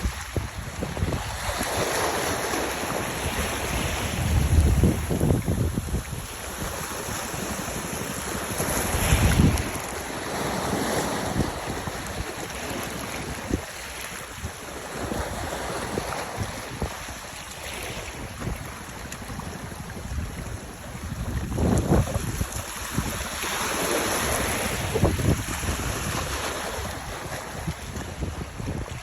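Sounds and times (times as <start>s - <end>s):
sea waves: 0.0s - 29.0s
wind buffeting microphone: 0.0s - 29.0s.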